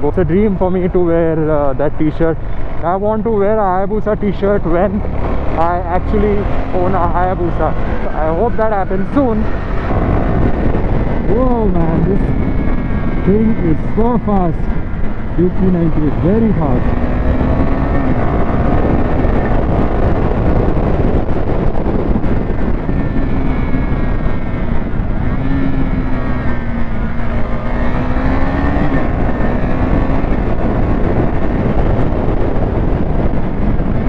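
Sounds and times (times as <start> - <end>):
motorcycle engine running: 0.0 - 34.0
wind noise on microphone: 0.0 - 34.0.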